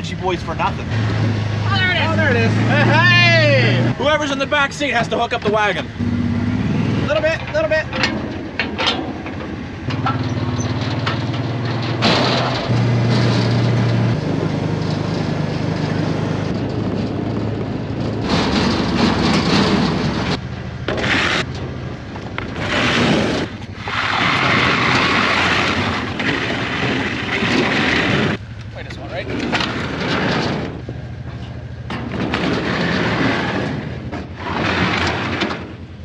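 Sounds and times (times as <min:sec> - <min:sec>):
utility vehicle engine running: 0:00.0 - 0:36.0.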